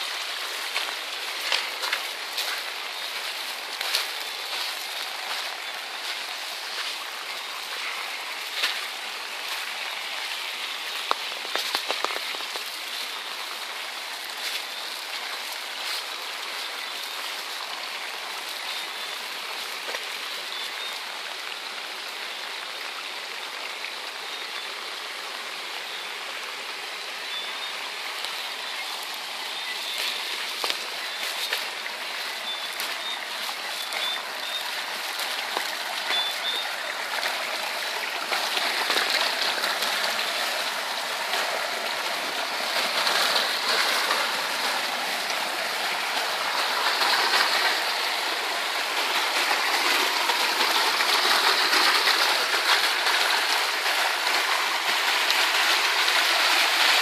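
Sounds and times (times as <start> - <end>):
water rushing down dirt track: 0.0 - 57.0.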